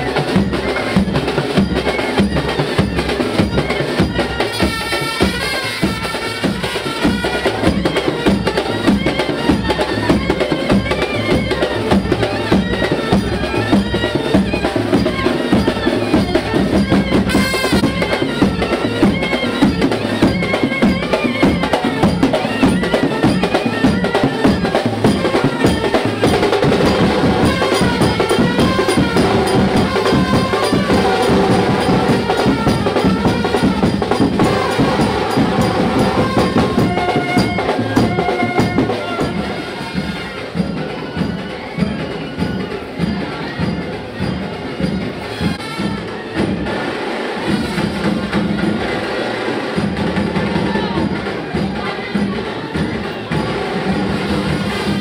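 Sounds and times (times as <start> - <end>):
music with driving drum beat: 0.0 - 55.0.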